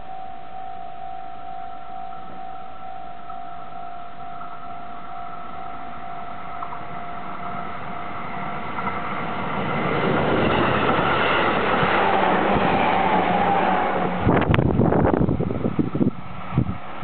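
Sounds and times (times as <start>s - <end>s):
steady high tone: 0.0s - 15.2s
freight train passing: 0.0s - 17.0s
wheels on rails: 0.0s - 17.0s.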